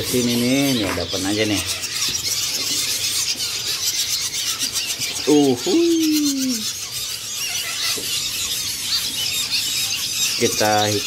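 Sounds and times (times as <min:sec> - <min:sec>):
nestling birds cheeping: 0:00.0 - 0:11.0.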